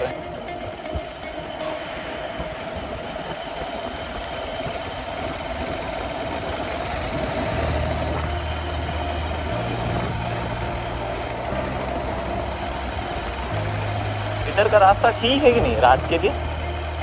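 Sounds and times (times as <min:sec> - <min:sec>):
deeper engine hum: 0:00.0 - 0:17.0
motorcycle engine running: 0:00.0 - 0:17.0
wind and road noise: 0:00.0 - 0:17.0.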